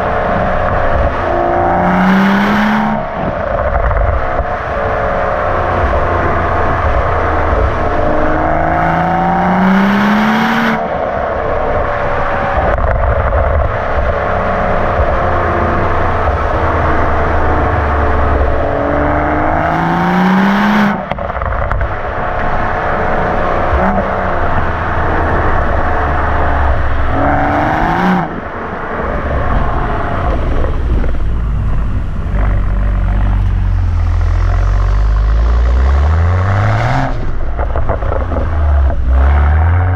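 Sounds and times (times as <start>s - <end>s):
car engine revving: 0.0s - 39.9s
low exhaust drone: 0.0s - 39.9s.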